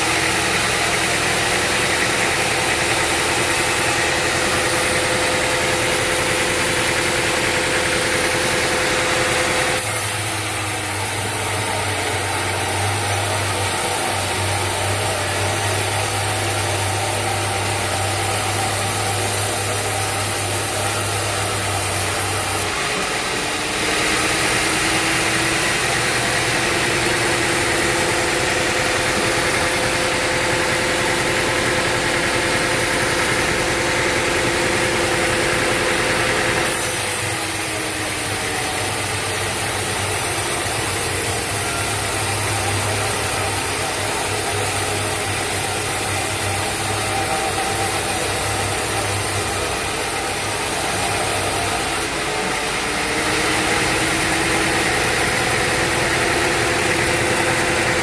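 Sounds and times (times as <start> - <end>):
sawmill machinery motor drone: 0.0 - 58.0.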